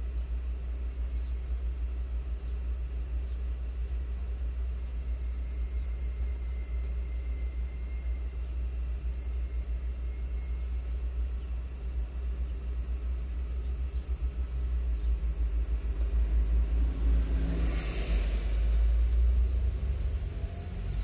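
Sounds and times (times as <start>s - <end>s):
car engine rumble inside cabin: 3.6s - 21.0s.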